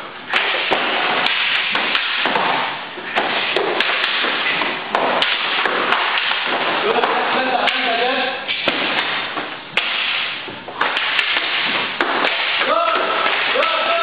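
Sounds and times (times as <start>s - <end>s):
wooden sticks cracking: 0.3s - 14.0s.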